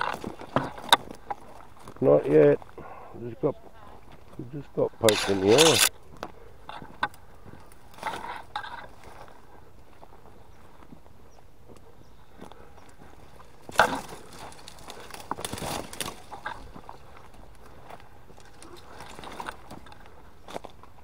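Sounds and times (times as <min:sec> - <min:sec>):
twigs crackling and snapping: 0:00.0 - 0:02.8, 0:04.0 - 0:11.0, 0:11.7 - 0:21.0
footsteps through dry scrub: 0:00.0 - 0:21.0.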